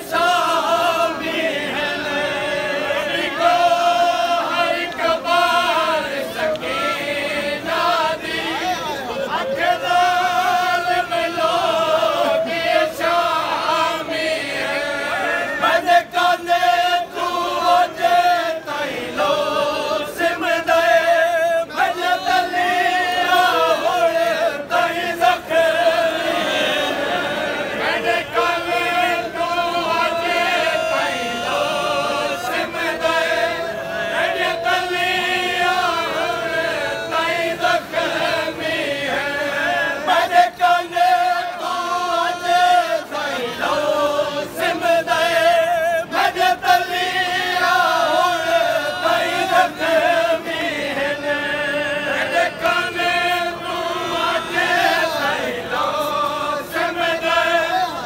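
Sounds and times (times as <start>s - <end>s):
crowd of men chanting: 0.0s - 58.0s.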